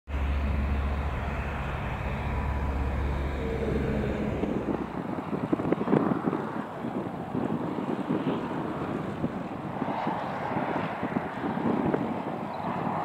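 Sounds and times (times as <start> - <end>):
propeller aeroplane flying past: 0.1 - 13.0
wind buffeting microphone: 0.1 - 13.0.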